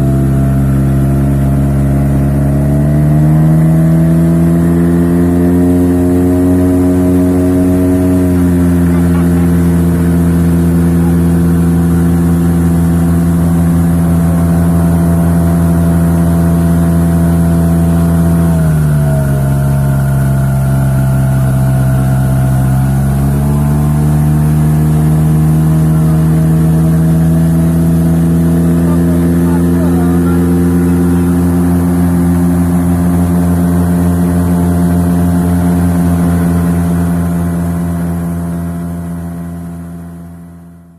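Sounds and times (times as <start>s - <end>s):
outboard motor running: 0.0s - 40.9s.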